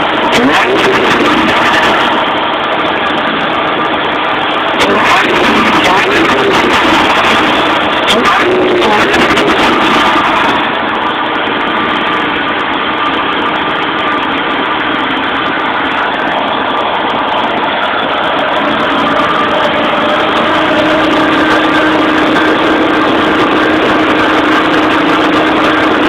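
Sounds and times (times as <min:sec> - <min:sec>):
supercharged car engine idling: 0:00.0 - 0:26.0.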